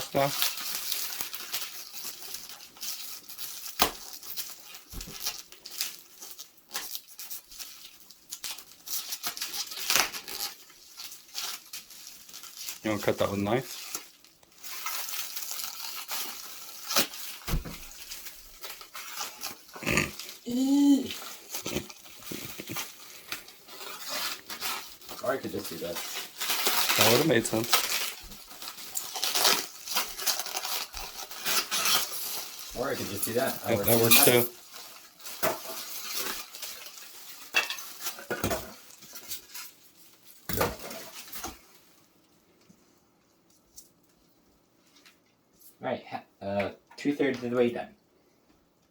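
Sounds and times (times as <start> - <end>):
packaging being opened by hand: 0.0 - 41.9
tape crackling and rustling: 0.0 - 45.8.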